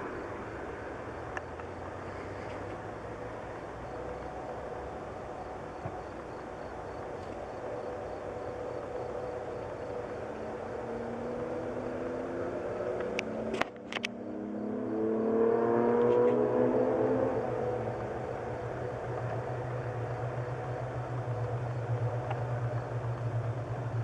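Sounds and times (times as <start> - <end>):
vehicle engine accelerating: 0.0 - 24.0.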